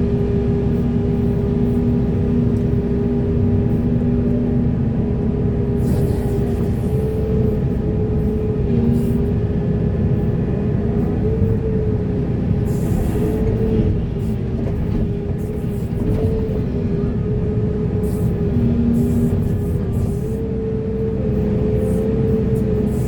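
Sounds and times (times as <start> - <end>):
excavator engine rumble: 0.0 - 23.0.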